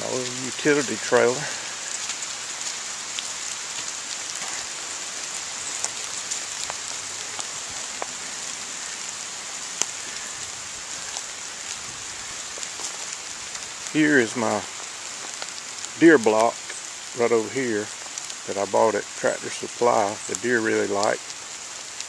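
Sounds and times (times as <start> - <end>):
raindrop ticks: 0.0 - 22.0
steady rain hiss: 0.0 - 22.0.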